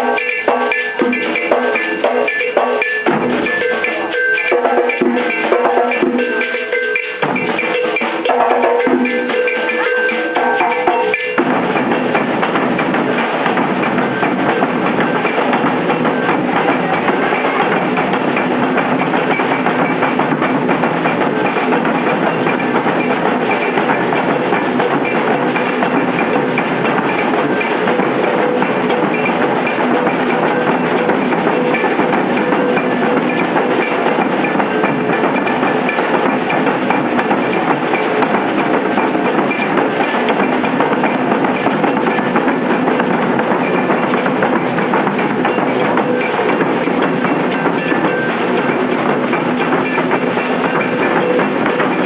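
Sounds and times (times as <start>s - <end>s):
percussion group drumming: 0.0s - 52.0s
struck percussion: 0.0s - 52.0s.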